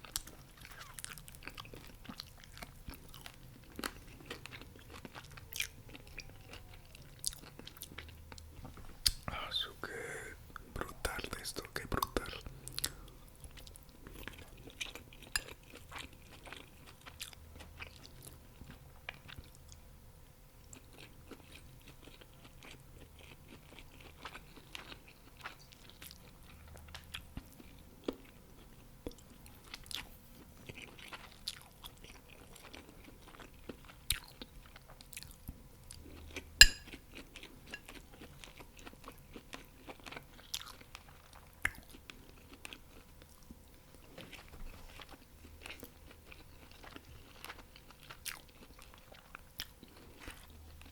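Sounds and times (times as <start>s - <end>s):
chewing and crunching food: 0.0s - 19.8s, 20.6s - 50.9s.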